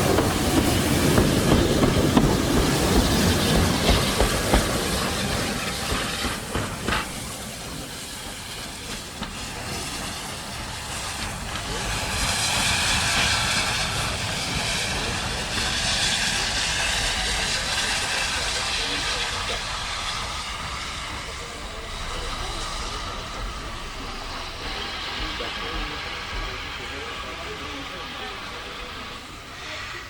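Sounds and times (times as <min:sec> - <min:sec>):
steam hissing: 0:00.0 - 0:30.0
train rumble: 0:00.0 - 0:30.0.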